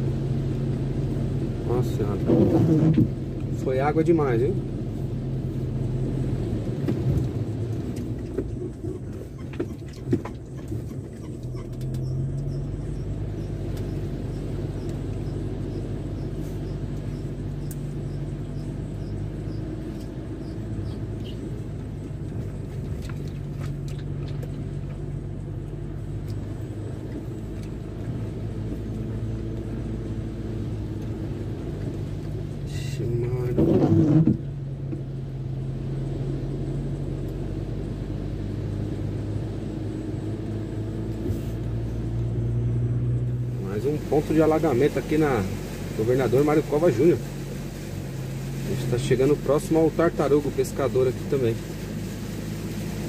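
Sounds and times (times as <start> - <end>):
car engine and tyres on wet road: 0.0 - 53.0.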